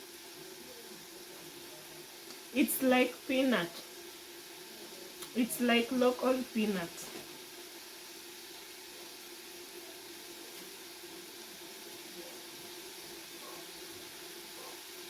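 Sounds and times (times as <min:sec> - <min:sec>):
pot simmering hiss: 0:00.0 - 0:15.0.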